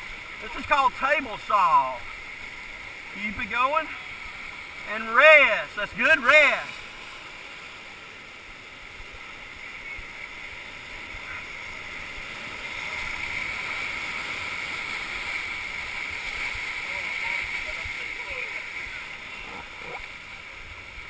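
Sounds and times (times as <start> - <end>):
rushing whitewater: 0.0 - 21.0.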